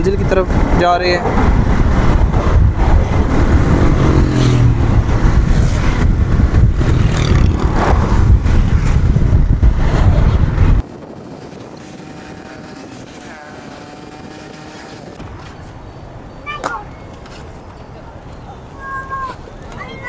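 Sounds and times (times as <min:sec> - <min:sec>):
vehicle road noise rumble: 0:00.0 - 0:20.0.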